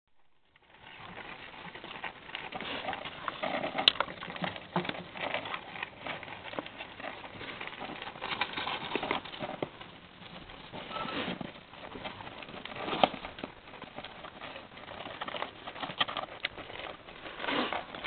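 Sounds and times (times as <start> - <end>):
hamsters scrabbling in bedding: 0.5 - 18.0
small clicks and scratches: 0.5 - 18.0.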